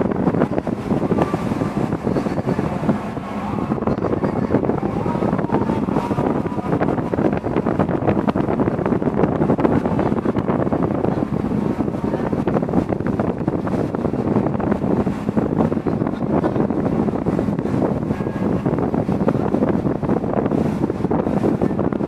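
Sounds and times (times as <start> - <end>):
waves breaking against ship hull: 0.0 - 22.0
wind buffeting microphone: 0.0 - 22.0.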